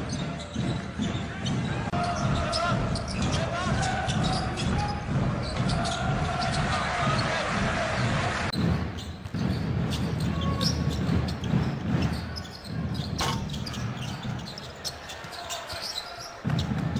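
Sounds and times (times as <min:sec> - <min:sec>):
sneakers squeaking: 0:00.0 - 0:06.7, 0:08.5 - 0:16.9
crowd noise: 0:00.0 - 0:16.9.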